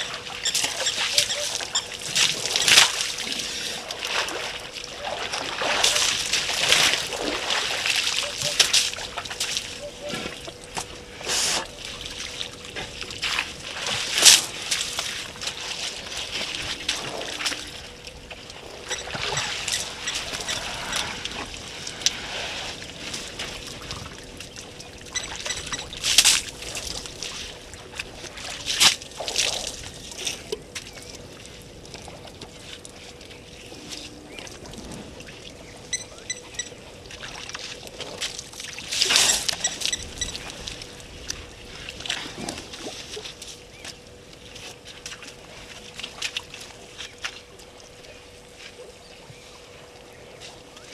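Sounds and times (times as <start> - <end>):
faint steady hum: 0.0 - 50.9
water trickling and sloshing: 0.0 - 50.9.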